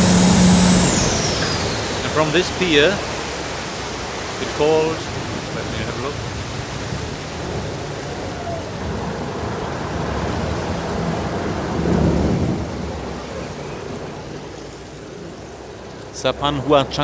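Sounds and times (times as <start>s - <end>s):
boat engine running: 0.0s - 17.0s
rushing water: 0.0s - 17.0s.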